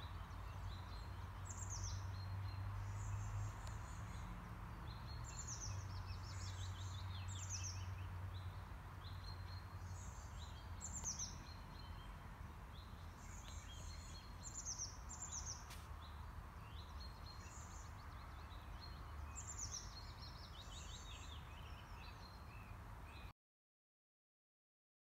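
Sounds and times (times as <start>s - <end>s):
songbirds singing: 0.0s - 23.3s.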